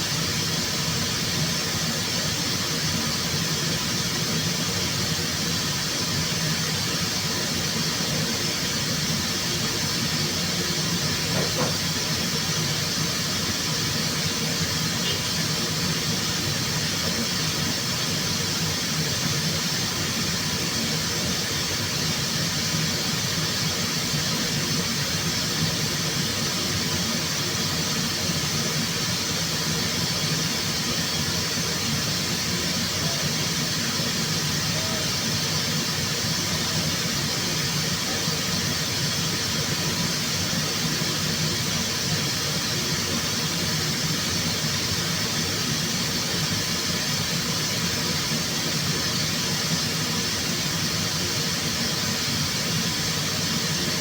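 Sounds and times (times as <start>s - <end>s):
air hissing: 0.0s - 54.0s.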